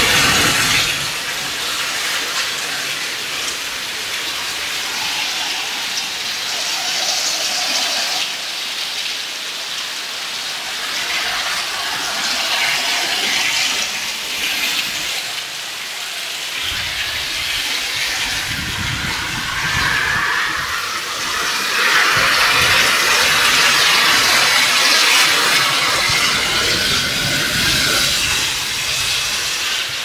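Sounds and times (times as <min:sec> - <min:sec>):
heavy rain on roofs: 0:00.0 - 0:30.0.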